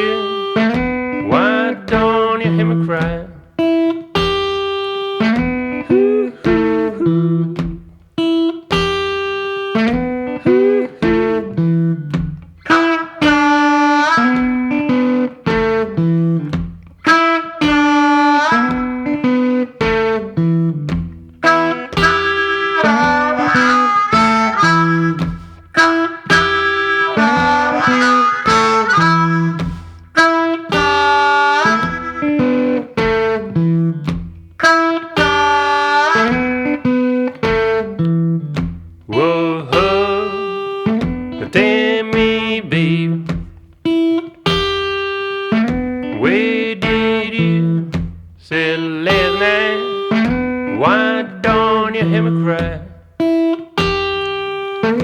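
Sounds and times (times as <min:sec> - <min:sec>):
harmonica solo: 0:00.0 - 0:48.0, 0:48.7 - 0:55.0
repeating guitar riff: 0:00.0 - 0:55.0
steady beat: 0:00.0 - 0:55.0.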